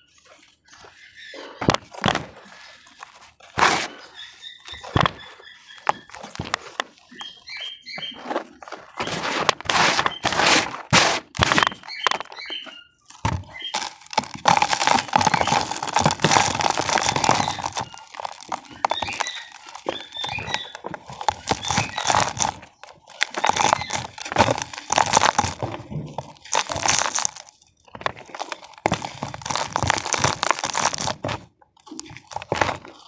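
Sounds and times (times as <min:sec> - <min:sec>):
damp cement crumbling and crunching: 0:00.1 - 0:33.0.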